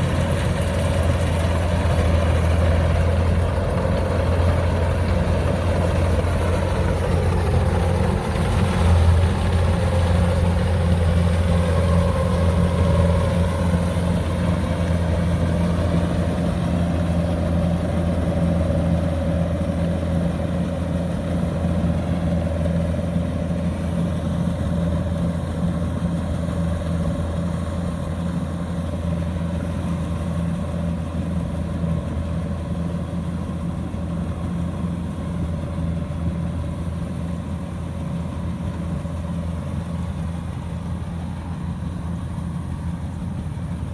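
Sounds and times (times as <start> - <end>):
combine harvester engine droning: 0.0 - 43.9.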